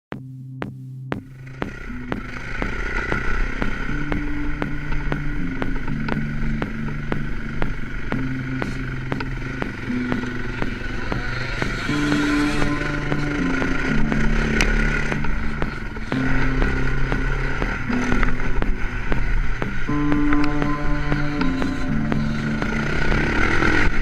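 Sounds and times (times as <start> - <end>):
electronic music with fast beat: 0.1 - 24.0.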